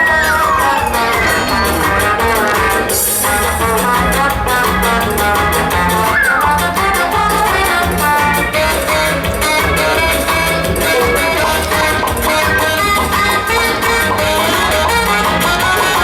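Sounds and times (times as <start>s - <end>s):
latin instrumental music with guitar: 0.0s - 16.0s.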